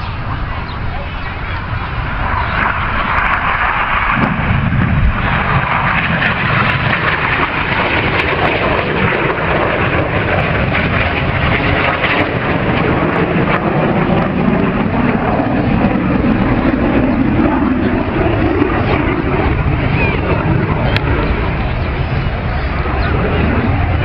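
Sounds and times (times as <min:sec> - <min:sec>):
jet engines flying past: 0:00.0 - 0:24.0.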